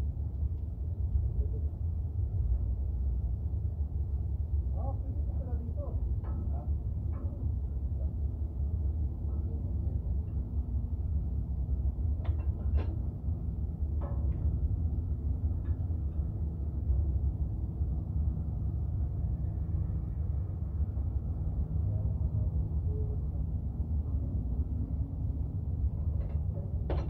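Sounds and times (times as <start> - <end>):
engine rumbling: 0.0 - 27.0.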